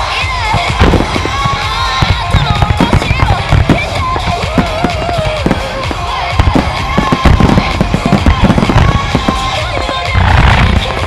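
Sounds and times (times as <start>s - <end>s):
fireworks bursting: 0.0s - 11.0s
pop song with woman singing: 0.0s - 11.0s.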